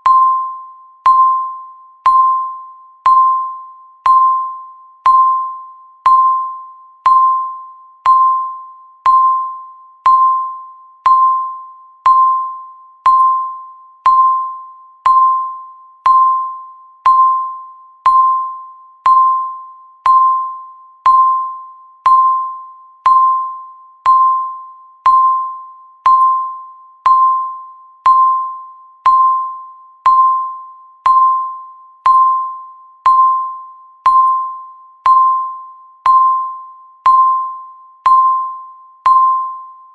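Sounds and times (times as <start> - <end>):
short ringing timer beeps: 0.0 - 39.9.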